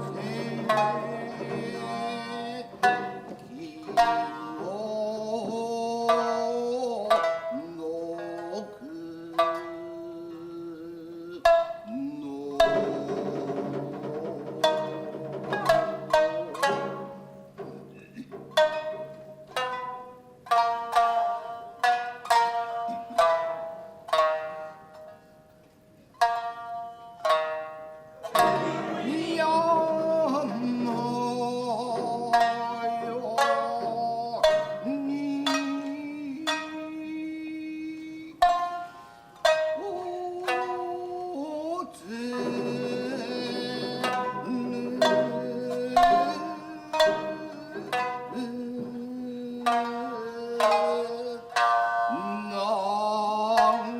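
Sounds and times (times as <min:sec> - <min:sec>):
shamisen plucked notes: 0:00.0 - 0:53.9.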